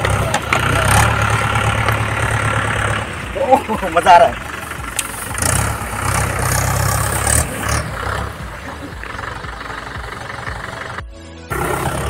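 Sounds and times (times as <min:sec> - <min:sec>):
dry stalks crackling: 0:00.0 - 0:11.0
tractor engine idling: 0:00.0 - 0:12.0.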